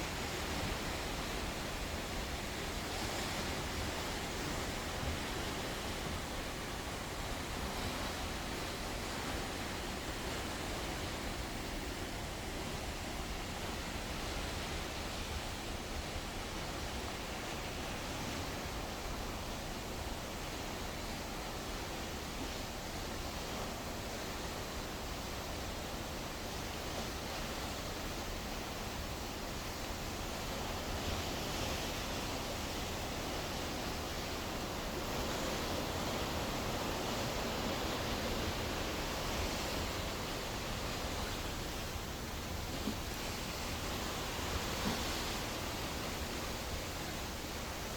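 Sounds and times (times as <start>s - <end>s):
sea water rushing: 0.0s - 47.9s.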